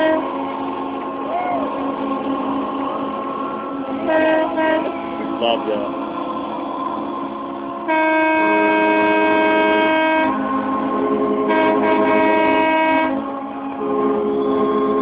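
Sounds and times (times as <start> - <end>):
boat horns blowing: 0.0 - 15.0.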